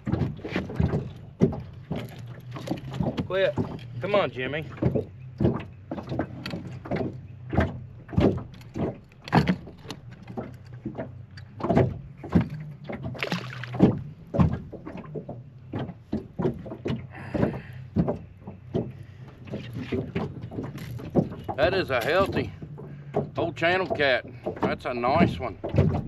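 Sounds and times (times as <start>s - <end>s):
knocks and slaps against boat: 0.0s - 26.0s
low motor hum: 0.0s - 26.0s.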